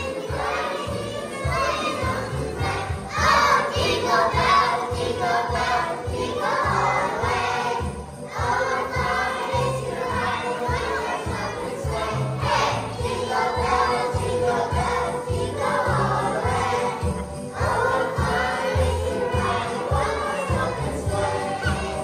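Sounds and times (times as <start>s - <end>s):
children singing together: 0.0s - 22.0s
recorded holiday song: 0.0s - 22.0s.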